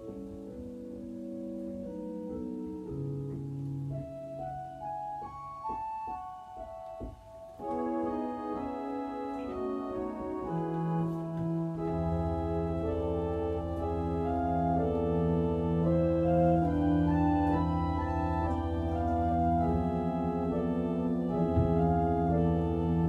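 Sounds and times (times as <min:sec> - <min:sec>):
church organ chords: 0:00.0 - 0:23.0.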